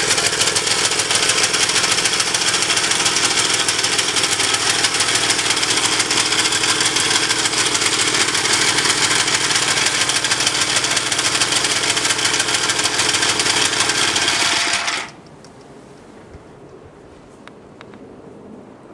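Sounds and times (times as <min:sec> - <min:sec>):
small tiller engine running: 0:00.0 - 0:15.2.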